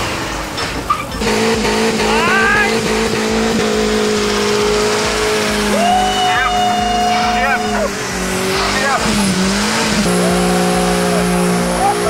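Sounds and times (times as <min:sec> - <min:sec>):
background music: 0:00.0 - 0:12.0
car engine at high revs: 0:00.0 - 0:12.0
tyres spinning: 0:00.0 - 0:12.0.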